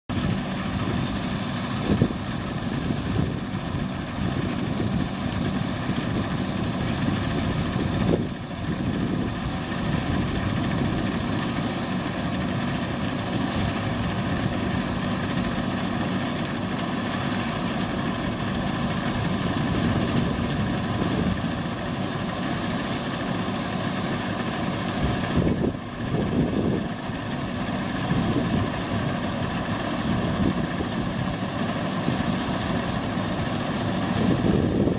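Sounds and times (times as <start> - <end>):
combine harvester engine drone: 0.1 - 34.9.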